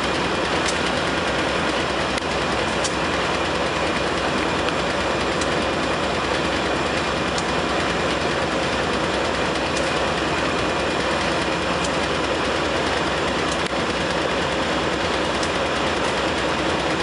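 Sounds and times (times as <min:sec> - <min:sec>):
diesel locomotive engines rumbling: 0:00.0 - 0:17.0.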